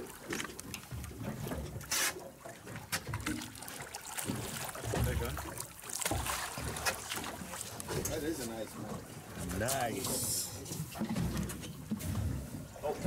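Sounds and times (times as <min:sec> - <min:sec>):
water splashing against boat: 0:00.0 - 0:13.0.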